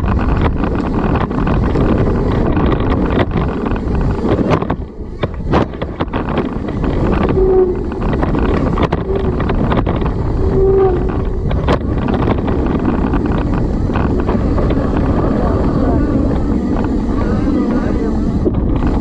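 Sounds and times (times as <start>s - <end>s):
bike rattling and knocking: 0.0s - 17.8s
tyres rushing on dirt trail: 0.0s - 19.0s
wind buffeting microphone: 0.0s - 19.0s.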